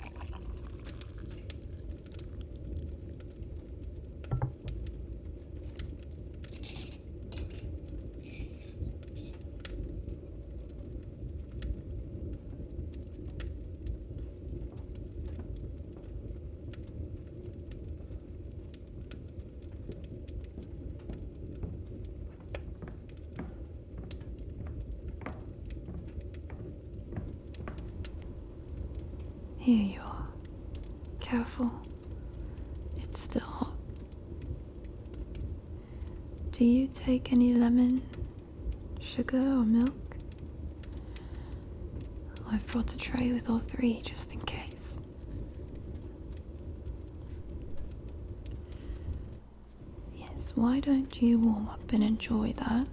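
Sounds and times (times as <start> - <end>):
fireplace crackling: 0.0 - 52.9
rain: 0.0 - 52.9.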